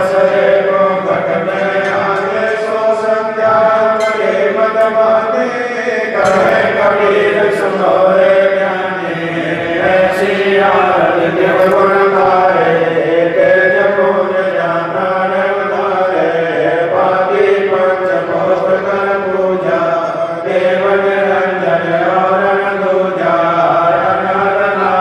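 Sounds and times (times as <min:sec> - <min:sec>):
devotional chanting: 0:00.0 - 0:25.0.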